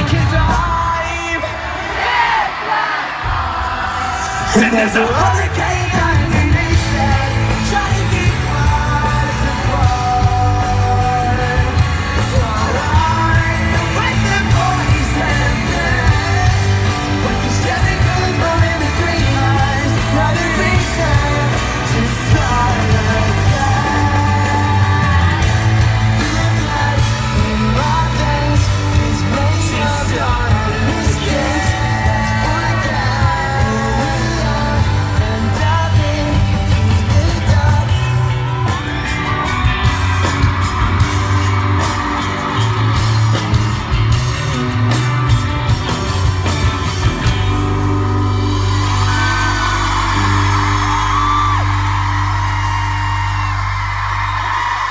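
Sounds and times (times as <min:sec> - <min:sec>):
crowd yelling: 0:00.0 - 0:54.9
pop-rock band playing live: 0:00.0 - 0:54.9
person singing: 0:03.6 - 0:44.0, 0:47.2 - 0:54.9.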